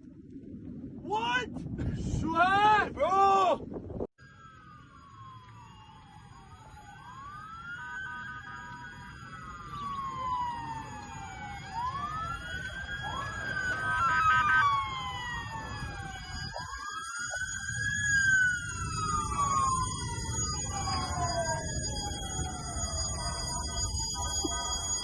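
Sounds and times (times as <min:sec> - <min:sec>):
low rumble of street noise: 0:00.0 - 0:25.0
emergency sirens wailing: 0:04.2 - 0:25.0.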